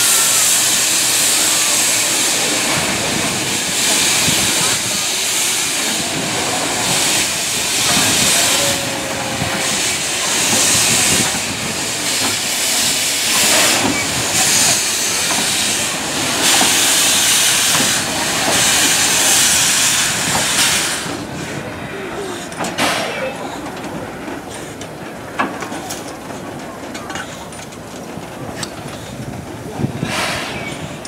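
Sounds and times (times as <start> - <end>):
steam hissing from locomotive: 0.0 - 23.8, 28.6 - 31.0.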